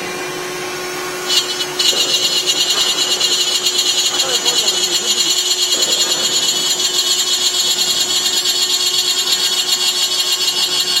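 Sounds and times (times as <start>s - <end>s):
milling machine cutting aluminum: 1.3s - 11.0s.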